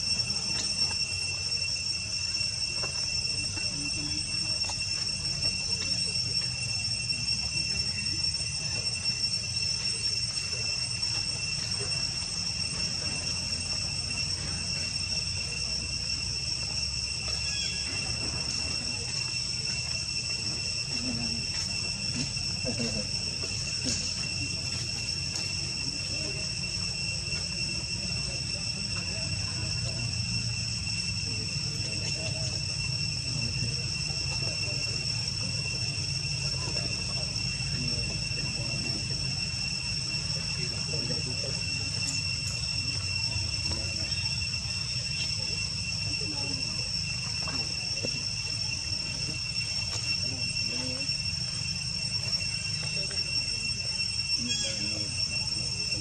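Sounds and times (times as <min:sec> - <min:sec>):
insects whining: 0:00.0 - 0:56.0.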